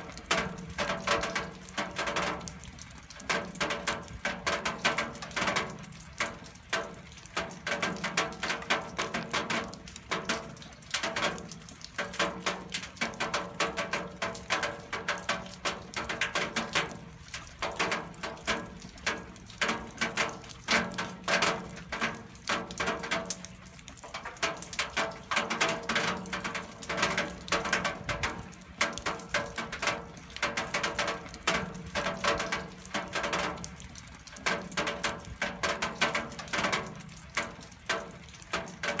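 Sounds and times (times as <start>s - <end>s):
rain pattering on metal: 0.0s - 39.0s.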